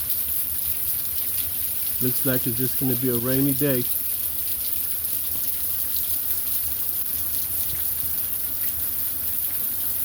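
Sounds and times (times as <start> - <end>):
faint drip ticks: 0.0 - 10.0.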